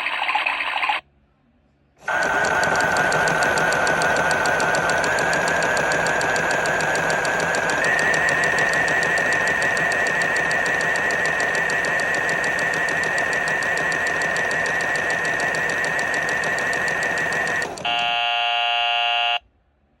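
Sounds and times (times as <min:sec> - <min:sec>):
washing machine motor whining: 0:02.0 - 0:18.6.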